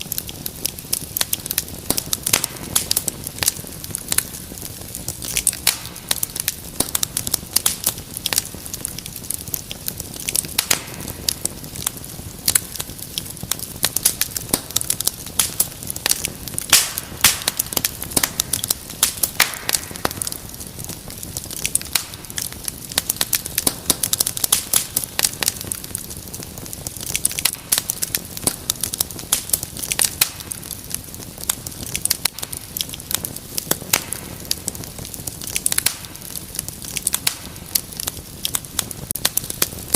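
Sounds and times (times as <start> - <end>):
fire crackling: 0.0 - 39.9
low rumble of flames: 0.0 - 39.9.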